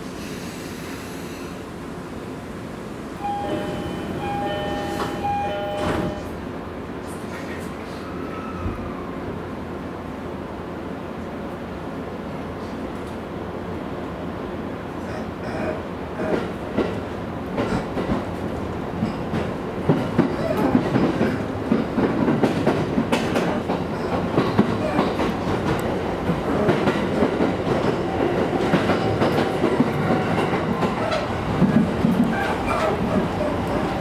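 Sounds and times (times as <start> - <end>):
train interior rumble: 0.0 - 34.0.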